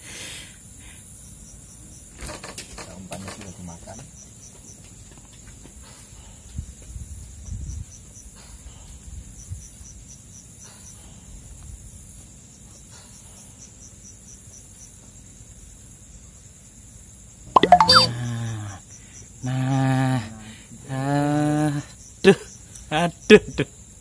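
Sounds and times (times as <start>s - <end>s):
crickets chirping: 0.1s - 17.5s, 18.1s - 24.0s.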